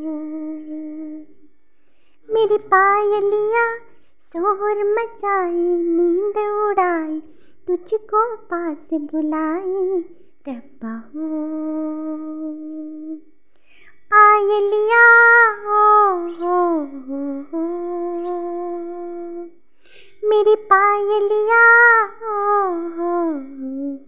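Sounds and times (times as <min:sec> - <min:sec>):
woman singing: 0:00.0 - 0:01.3, 0:02.3 - 0:13.2, 0:14.1 - 0:19.5, 0:20.2 - 0:24.0.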